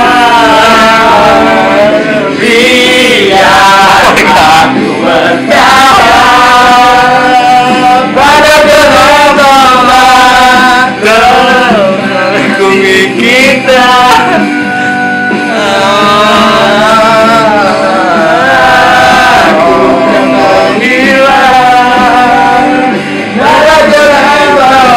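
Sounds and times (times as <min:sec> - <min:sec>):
strummed acoustic guitar: 0:00.0 - 0:24.9
young men singing together: 0:00.0 - 0:24.9.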